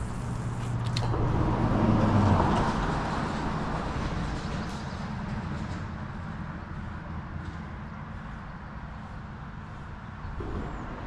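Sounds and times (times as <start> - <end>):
vehicle rumbling over bridge: 0.0 - 11.0.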